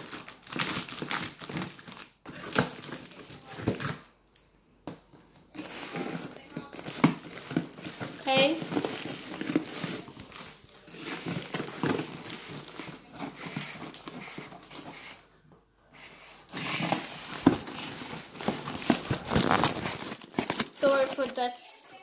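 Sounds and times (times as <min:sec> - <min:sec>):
packaging crinkling: 0:00.0 - 0:04.0, 0:05.5 - 0:15.2, 0:16.5 - 0:21.5.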